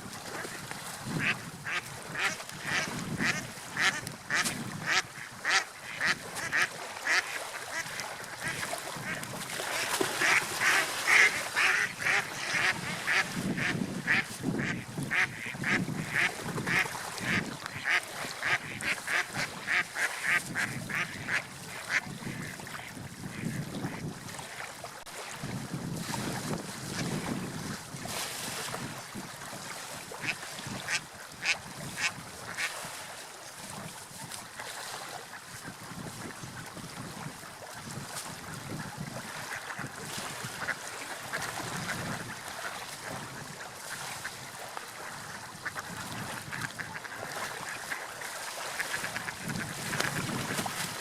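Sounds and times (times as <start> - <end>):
wind and surf rush: 0.0 - 24.5, 25.1 - 34.4, 35.5 - 51.0.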